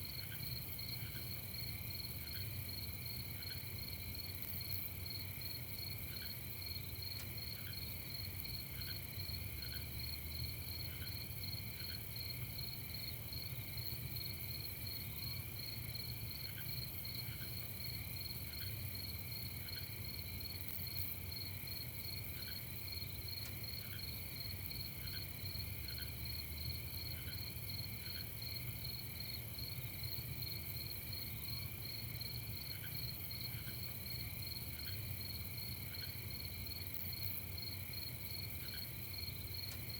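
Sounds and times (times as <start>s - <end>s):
crickets trilling: 0.1s - 39.9s.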